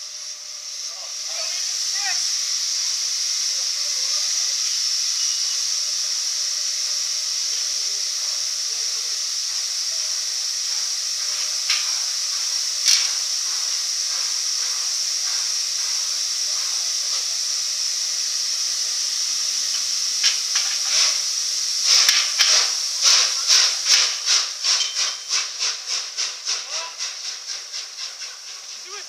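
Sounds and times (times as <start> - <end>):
steam hissing: 0.0 - 29.0
steam locomotive exhaust beats: 0.0 - 29.0.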